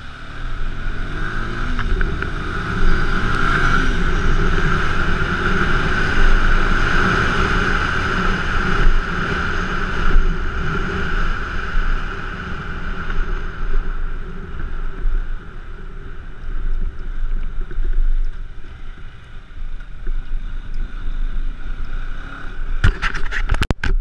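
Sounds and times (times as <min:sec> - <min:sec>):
low road rumble: 0:00.0 - 0:24.0
motorcycle engine running: 0:00.0 - 0:24.0
wind rush on microphone: 0:00.0 - 0:24.0.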